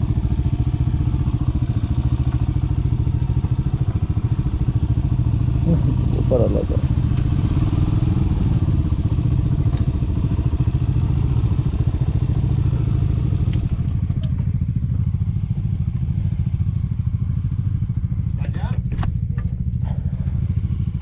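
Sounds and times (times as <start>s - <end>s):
motorcycle exhaust beat: 0.0s - 21.0s.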